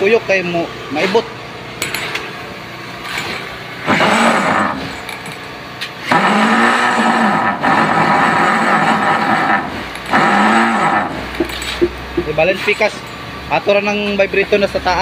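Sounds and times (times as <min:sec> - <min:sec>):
motor-driven machine running: 0:00.1 - 0:14.2.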